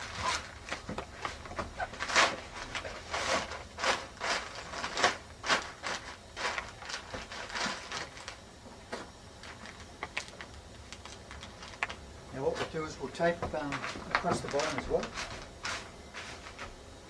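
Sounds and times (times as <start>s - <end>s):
plastic film rustling: 0.0s - 16.8s.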